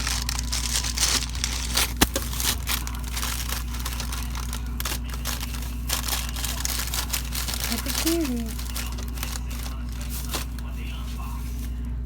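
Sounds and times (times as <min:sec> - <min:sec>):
crinkling and rustling: 0:00.0 - 0:12.0
low hum: 0:00.0 - 0:12.0.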